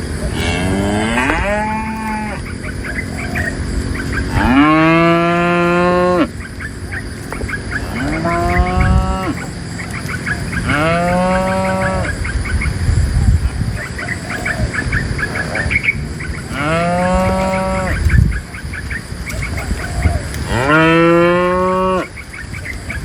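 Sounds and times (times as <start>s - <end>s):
cows mooing: 0.0s - 12.4s, 13.8s - 18.6s, 19.6s - 22.2s.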